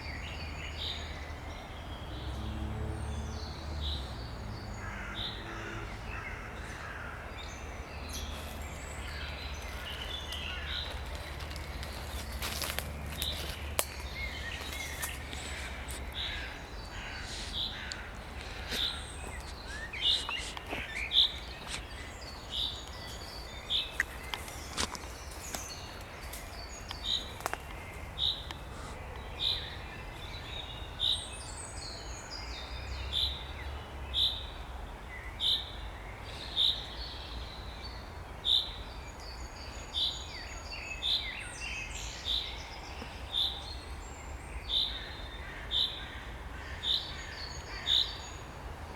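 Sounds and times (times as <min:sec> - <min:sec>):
faint calls of other birds: 0:03.9 - 0:33.3, 0:38.4 - 0:48.6.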